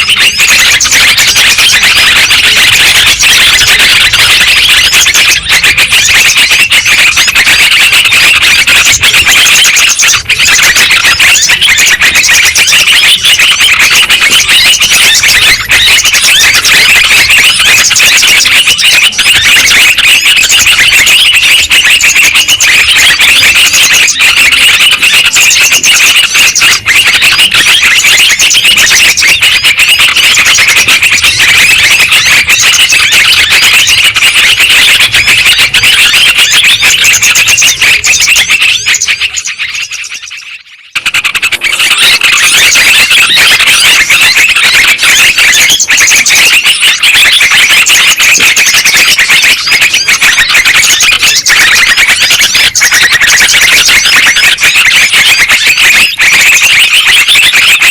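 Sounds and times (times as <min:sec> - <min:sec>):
birds chattering: 0:00.0 - 0:57.9.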